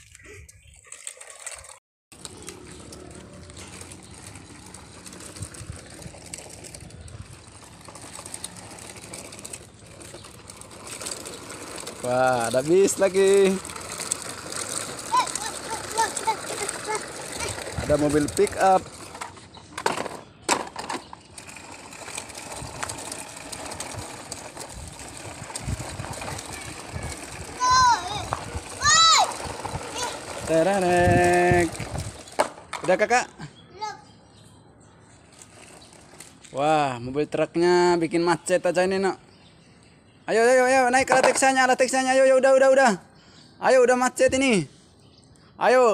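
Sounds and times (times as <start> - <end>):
toy wheels scraping over asphalt: 0.0 - 34.0, 35.0 - 39.6, 40.3 - 43.0.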